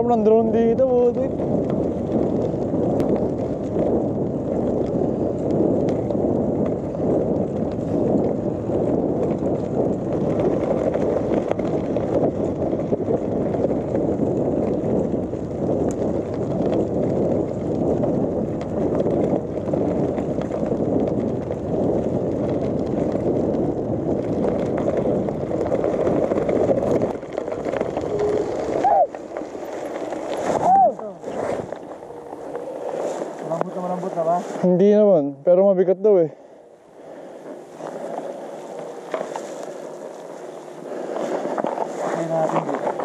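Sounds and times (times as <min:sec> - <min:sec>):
bike tyres on gravel: 0:00.0 - 0:43.0
wind on the microphone: 0:00.0 - 0:43.0.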